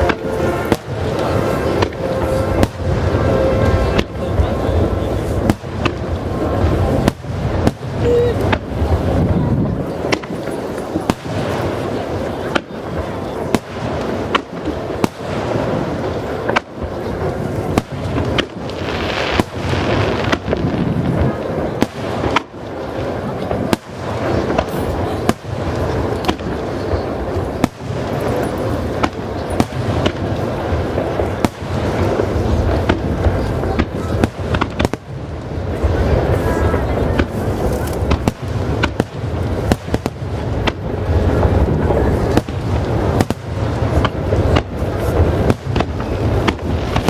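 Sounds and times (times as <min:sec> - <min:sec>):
constant rumble: 0:00.0 - 0:47.0
fireworks cracks and booms: 0:00.0 - 0:47.0
hissing crackle: 0:00.0 - 0:47.0.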